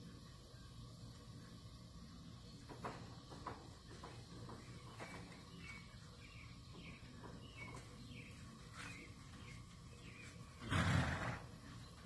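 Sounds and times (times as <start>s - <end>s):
outdoor background hiss: 0.0s - 12.0s
small birds chirping: 0.0s - 12.0s.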